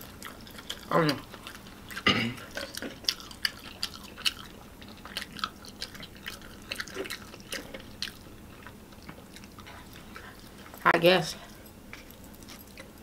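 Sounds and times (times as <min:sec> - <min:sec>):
chewing mouth clicks: 0:00.0 - 0:10.7.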